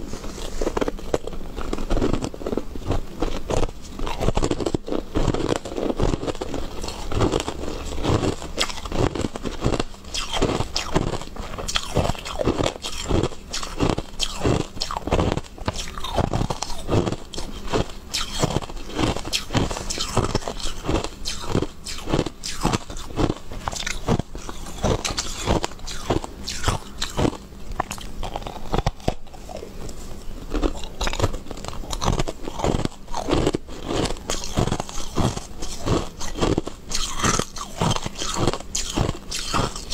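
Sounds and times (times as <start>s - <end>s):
crunchy chewing: 0.0s - 39.9s
wet mouth sounds: 0.6s - 39.9s.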